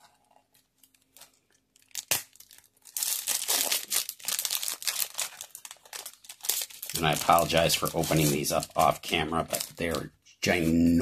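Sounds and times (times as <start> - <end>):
wrapper crinkling: 0.0 - 10.0
paper wrapper tearing: 0.8 - 10.7.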